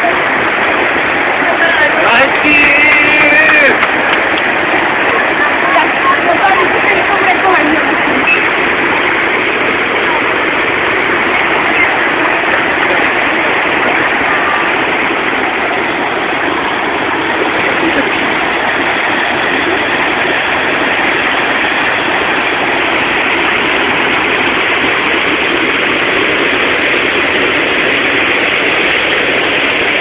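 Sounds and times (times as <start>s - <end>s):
water rushing over weir: 0.0s - 30.0s.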